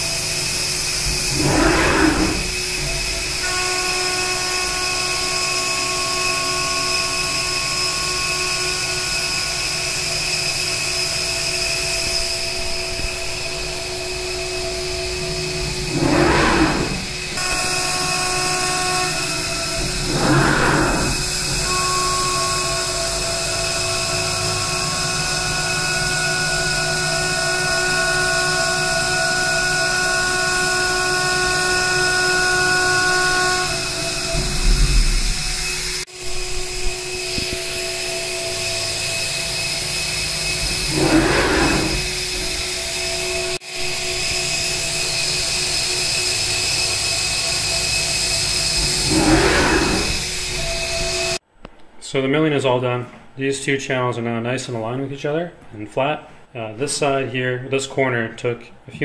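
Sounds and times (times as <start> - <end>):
router spindle whine: 0.0 - 51.4.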